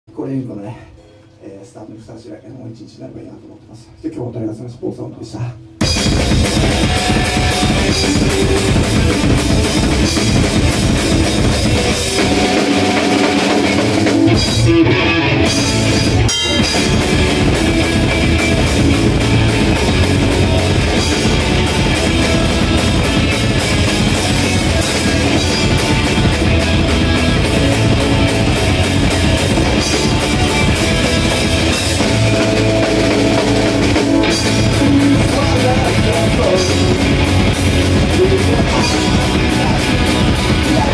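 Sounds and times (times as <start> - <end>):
rock band playing live: 5.8 - 40.9.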